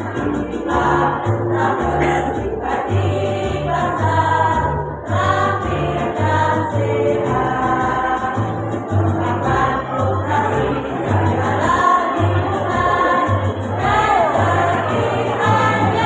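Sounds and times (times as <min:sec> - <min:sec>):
women's choir singing: 0:00.0 - 0:16.0.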